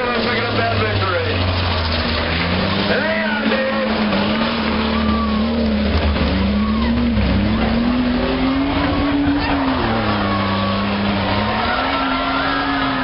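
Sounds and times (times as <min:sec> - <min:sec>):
race car engine revving: 0:00.0 - 0:13.0
tire squeal: 0:00.0 - 0:13.0
track noise: 0:00.0 - 0:13.0.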